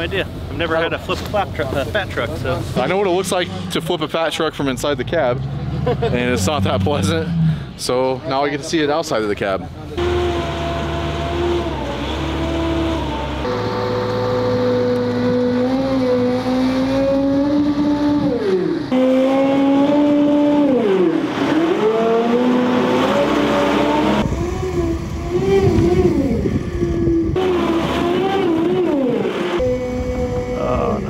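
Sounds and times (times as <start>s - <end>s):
engine working hard under load: 0.0s - 7.8s, 9.8s - 31.0s.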